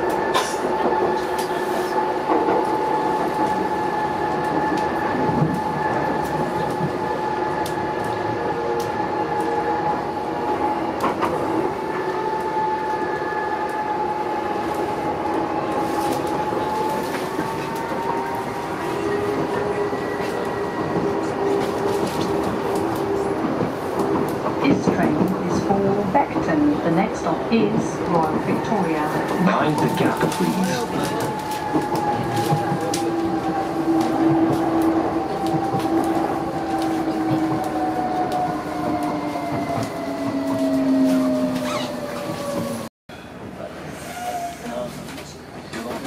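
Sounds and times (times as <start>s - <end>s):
electric train whine: 0.0s - 42.9s
wheels rumbling on rails: 0.0s - 42.9s.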